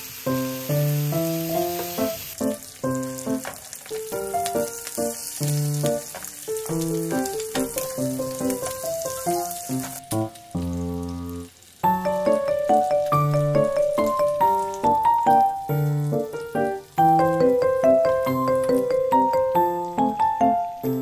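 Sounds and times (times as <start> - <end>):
meat sizzling on a grill: 0.0 - 21.0
gentle background music: 0.3 - 21.0.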